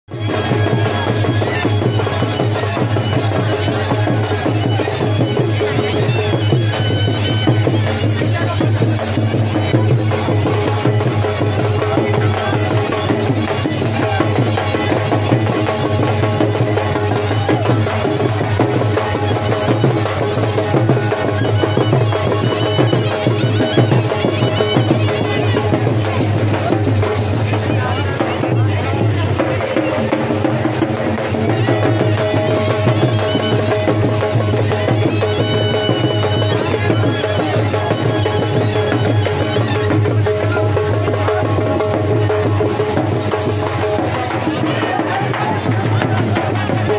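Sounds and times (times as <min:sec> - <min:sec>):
drum ensemble rhythm: 0:00.1 - 0:46.9
pitched melody: 0:00.1 - 0:46.9.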